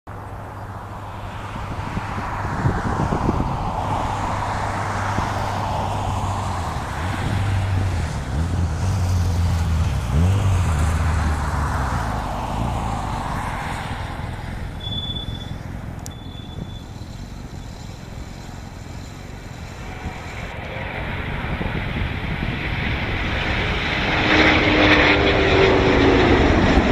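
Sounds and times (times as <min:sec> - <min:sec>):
jet airliner roar at takeoff: 0:00.1 - 0:26.9
sweeping whoosh of passing jet: 0:00.2 - 0:26.9.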